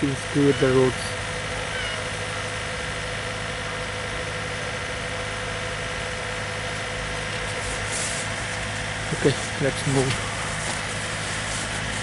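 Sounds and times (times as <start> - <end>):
machinery engine idling: 0.0 - 12.0.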